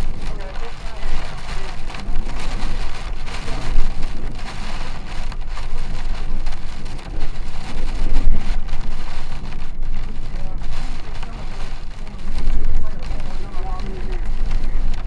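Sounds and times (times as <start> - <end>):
heavy rain pelting vehicle: 0.0 - 15.0
low rumble: 0.0 - 15.0.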